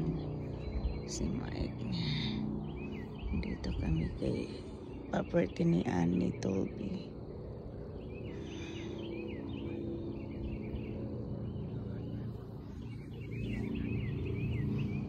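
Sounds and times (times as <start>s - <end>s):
low hum: 0.0s - 15.0s
small bird chirping: 0.0s - 15.0s.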